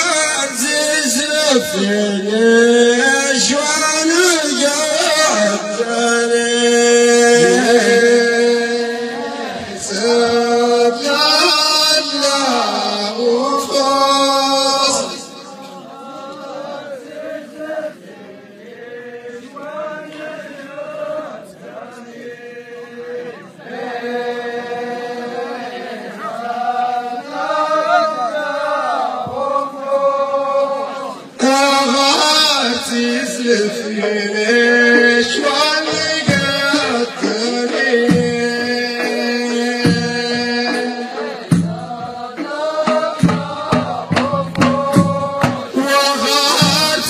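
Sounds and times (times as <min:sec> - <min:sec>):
men chanting together: 0:00.4 - 0:47.0.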